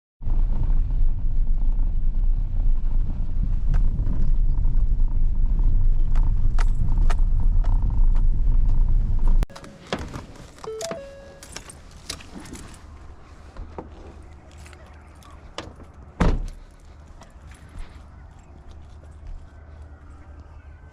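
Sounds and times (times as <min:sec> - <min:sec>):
heavy low rumble: 0:00.2 - 0:20.9.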